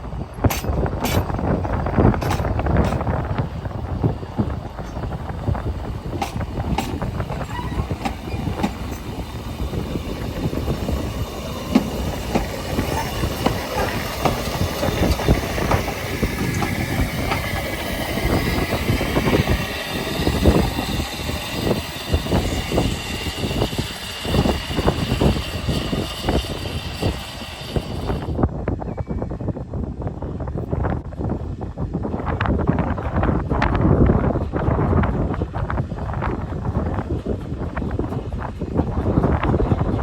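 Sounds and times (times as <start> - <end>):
wheels clattering on track: 0.0 - 28.4, 30.9 - 40.0
train rumbling: 0.0 - 40.0.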